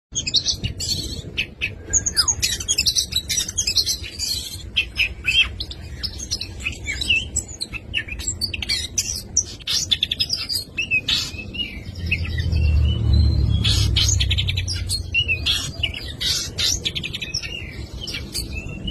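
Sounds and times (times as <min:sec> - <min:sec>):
bird singing varied song: 0:00.1 - 0:18.9.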